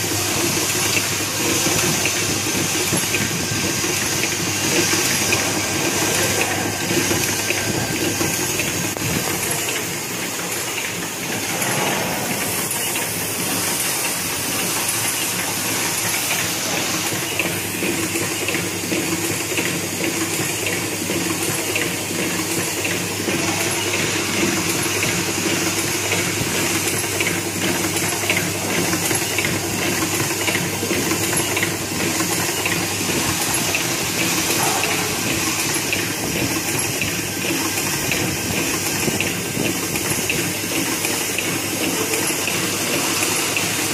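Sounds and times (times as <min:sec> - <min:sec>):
constant machine hum: 0:00.0 - 0:43.9
machine hiss: 0:00.0 - 0:43.9.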